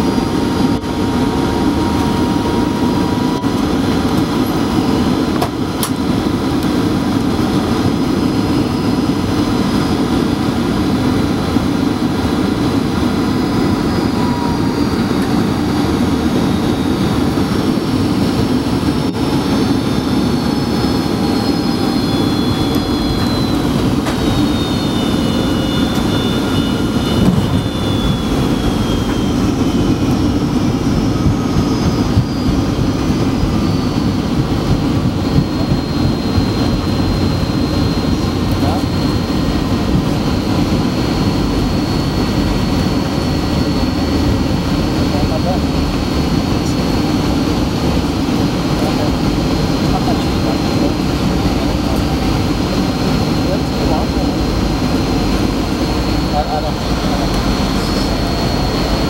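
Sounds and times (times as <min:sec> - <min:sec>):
high whining engine tones: 0:00.0 - 0:59.0
jet cabin engine and airflow noise: 0:00.0 - 0:59.0.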